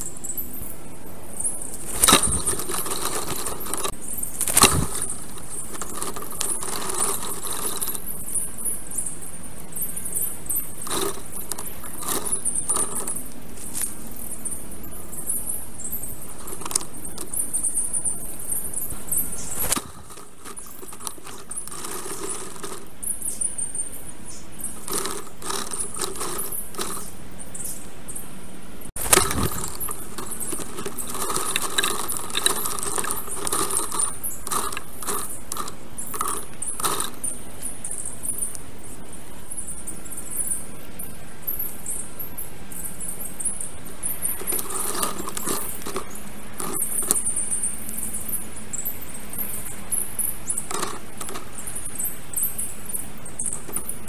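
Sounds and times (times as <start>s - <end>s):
forest birds twittering: 0.0s - 54.0s.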